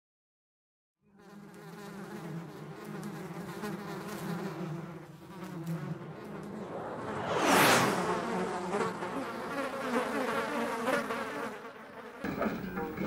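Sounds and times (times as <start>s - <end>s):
flies buzzing: 1.1s - 13.0s.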